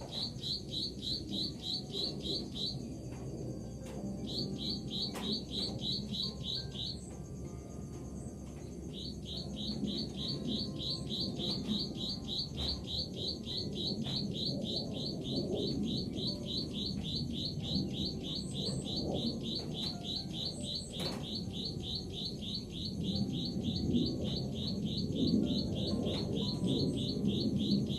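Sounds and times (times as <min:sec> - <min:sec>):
rapid high chirping call: 0:00.0 - 0:02.9, 0:04.2 - 0:07.1, 0:08.9 - 0:27.9
low background noise: 0:00.0 - 0:27.9.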